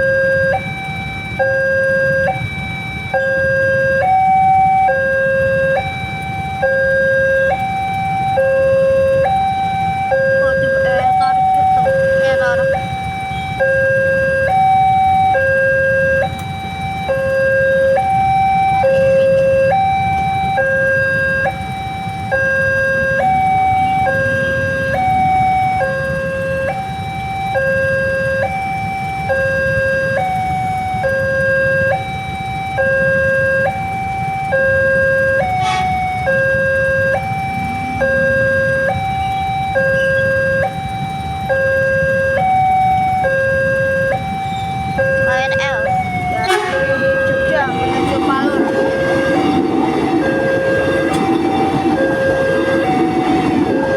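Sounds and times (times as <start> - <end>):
level crossing two-tone alarm: 0.0 - 53.9.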